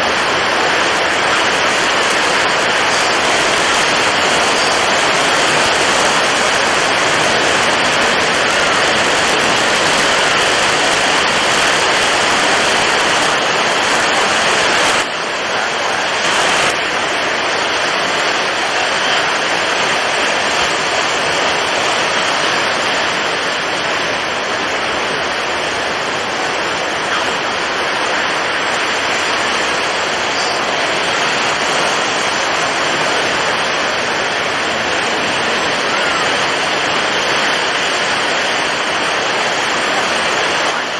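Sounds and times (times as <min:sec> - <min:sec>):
heavy waves: 0:00.0 - 0:40.9
strong wind: 0:00.0 - 0:40.9.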